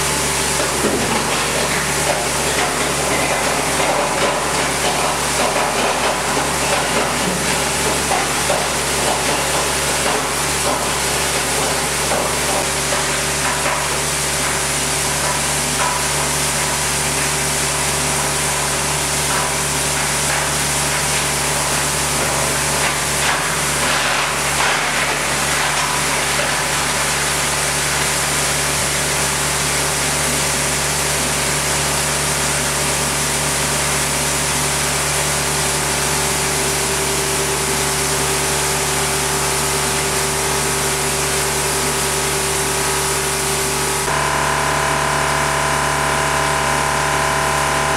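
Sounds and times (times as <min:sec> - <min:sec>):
plastic granulator humming: 0:00.0 - 0:47.9.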